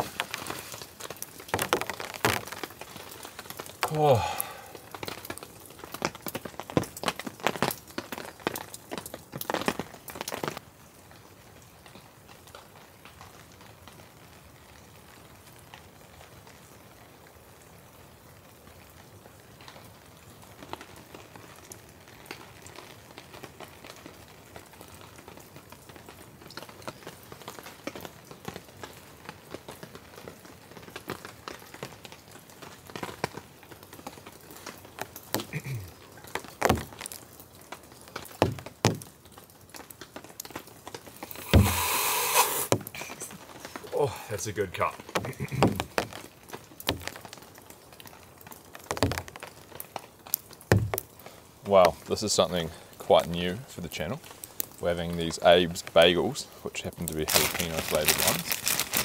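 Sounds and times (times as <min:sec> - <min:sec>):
rain pattering on a tarp: 0:00.0 - 0:59.0.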